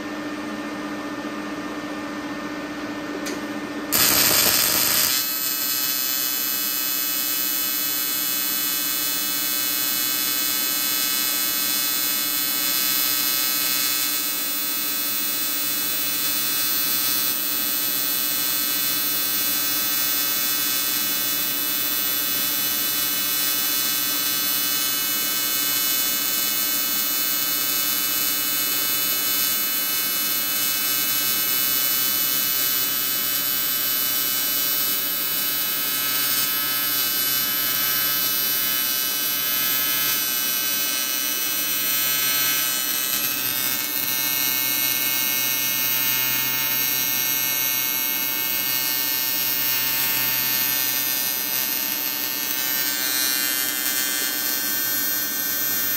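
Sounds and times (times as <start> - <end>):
welding arc buzzing and hissing: 3.9 - 55.9.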